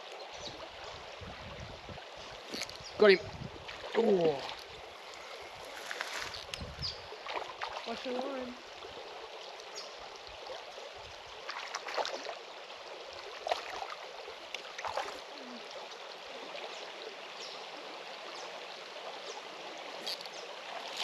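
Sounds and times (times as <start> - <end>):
water rushing at a weir: 0.0 - 21.0.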